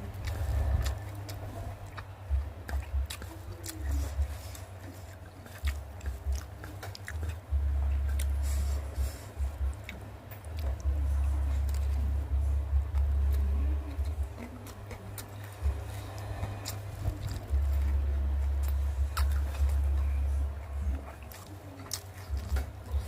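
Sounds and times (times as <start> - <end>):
low rumble: 0.0 - 21.4
chewing crunchy fried fish: 0.0 - 23.0.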